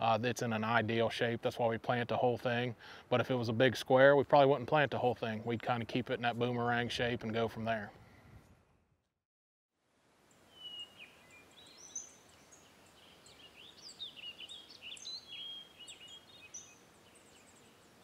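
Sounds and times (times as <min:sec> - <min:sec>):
songbirds chirping: 0:00.0 - 0:08.6, 0:10.2 - 0:18.0
faint outdoor hiss: 0:00.0 - 0:09.0, 0:09.8 - 0:18.0.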